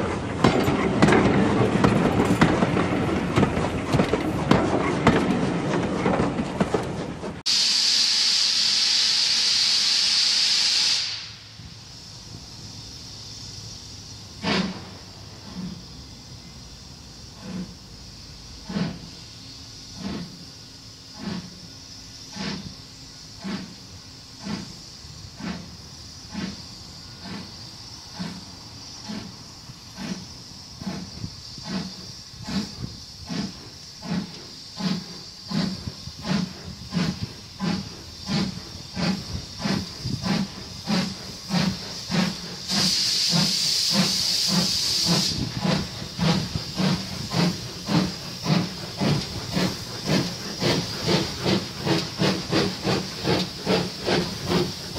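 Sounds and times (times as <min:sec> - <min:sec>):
steam locomotive chuffing: 0:00.0 - 0:54.9
loud hiss of steam: 0:07.4 - 0:54.9.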